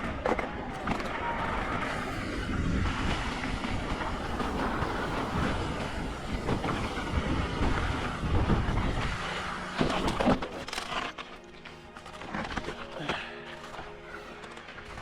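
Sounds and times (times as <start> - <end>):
mountain bike rattling over ground: 0.0 - 15.0.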